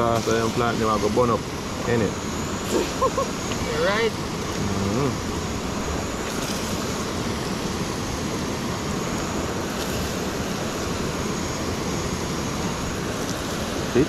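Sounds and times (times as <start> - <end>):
river running over rocks: 0.0 - 14.0.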